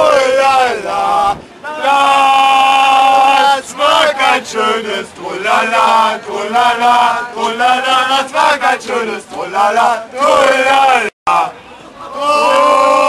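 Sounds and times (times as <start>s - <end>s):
men chanting a fan song: 0.0s - 13.0s.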